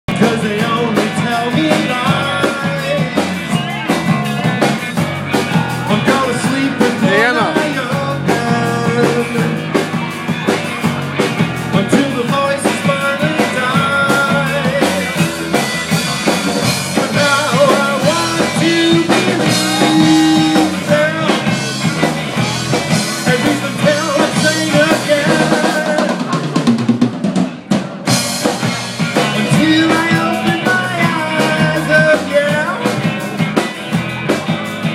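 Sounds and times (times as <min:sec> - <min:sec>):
drum kit: 0:00.1 - 0:34.9
electric guitars: 0:00.1 - 0:34.9.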